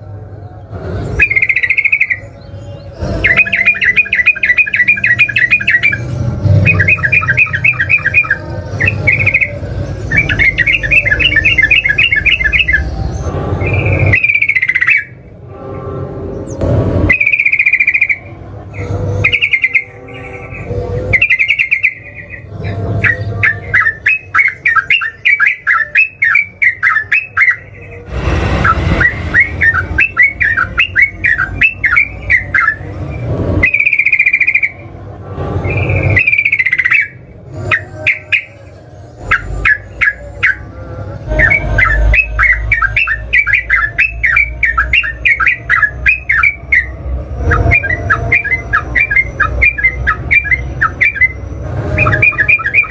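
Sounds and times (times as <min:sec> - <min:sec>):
loud sweeping bird calls: 0:00.6 - 0:15.3, 0:16.3 - 0:34.8, 0:35.6 - 0:40.7, 0:41.3 - 0:52.9.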